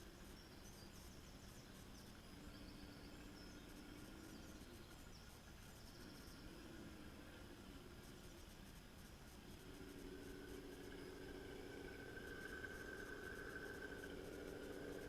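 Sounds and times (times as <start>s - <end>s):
faint wavering low hum: 0.0s - 15.0s.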